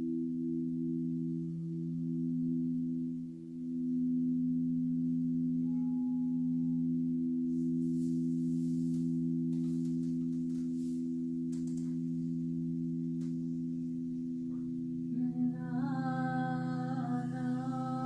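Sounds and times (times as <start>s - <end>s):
crystal singing bowls ringing: 0.0s - 18.0s.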